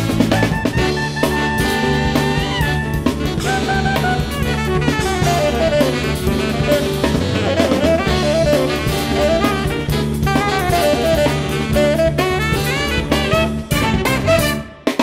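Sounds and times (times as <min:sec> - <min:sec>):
bass guitar: 0:00.0 - 0:15.0
drum kit: 0:00.0 - 0:15.0
saxophones playing melody: 0:00.0 - 0:15.0.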